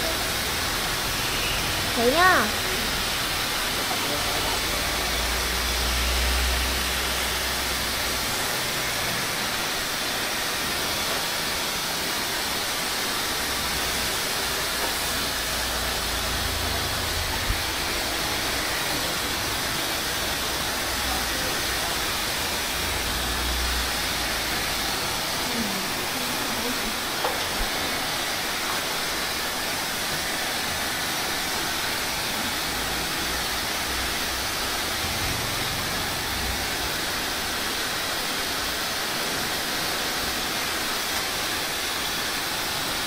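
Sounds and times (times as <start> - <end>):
hair dryer blowing: 0.0 - 43.0.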